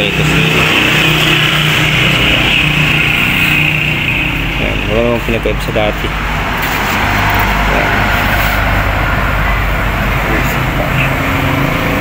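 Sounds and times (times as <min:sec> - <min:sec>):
traffic noise: 0:00.0 - 0:12.0
low engine hum: 0:01.0 - 0:12.0.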